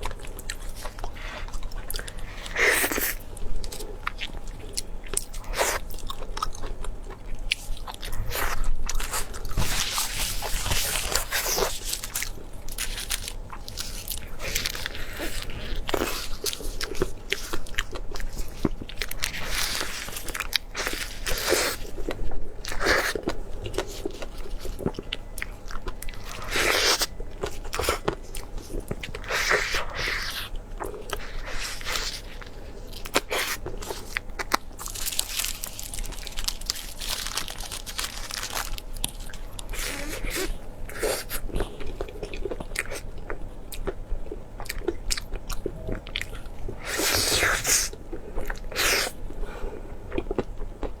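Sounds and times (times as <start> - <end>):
person crunching and chewing food: 0.0 - 51.0.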